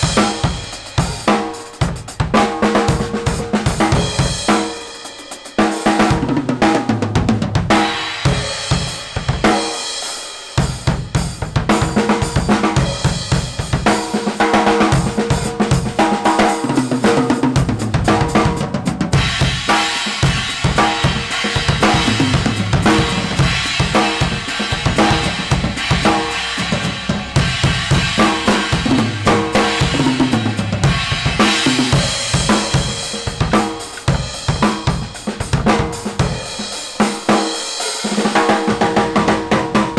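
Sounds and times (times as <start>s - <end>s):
drum kit played with sticks: 0.0s - 39.9s.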